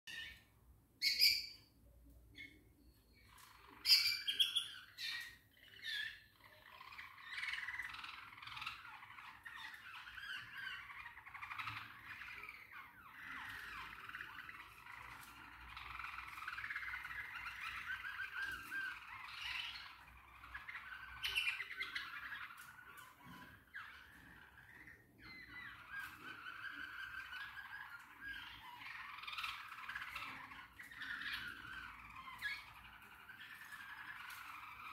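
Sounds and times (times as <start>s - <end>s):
pet birds squawking and chattering: 0.1s - 34.9s.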